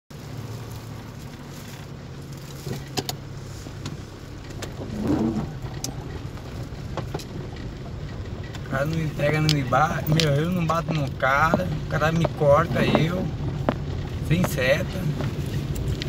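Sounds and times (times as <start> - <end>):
car engine and road hum: 0.1 - 16.0.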